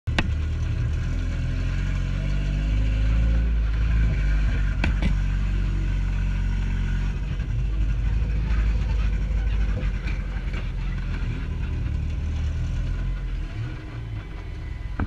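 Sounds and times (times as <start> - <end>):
car engine accelerating: 0.1 - 15.0.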